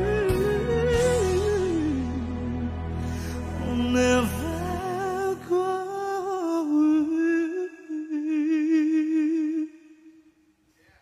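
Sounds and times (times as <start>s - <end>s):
man singing with vibrato: 0.0s - 10.5s.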